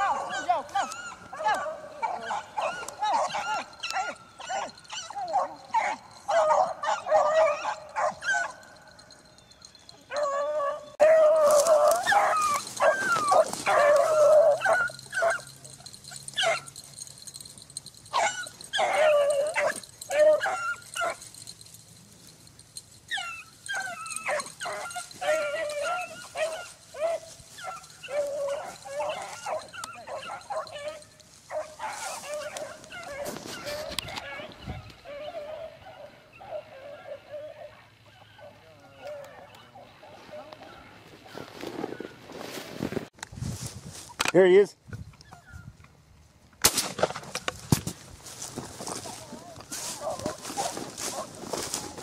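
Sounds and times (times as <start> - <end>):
beagles baying: 0.0 - 42.2, 48.2 - 52.0.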